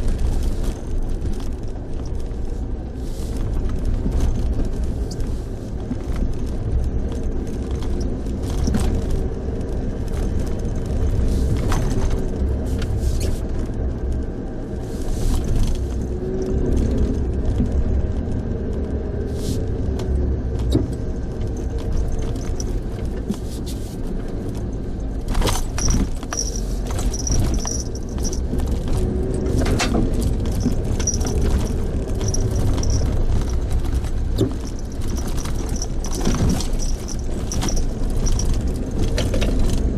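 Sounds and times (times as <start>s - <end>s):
car engine and road rumble: 0.0s - 39.9s
small rattles and clicks: 0.0s - 39.9s.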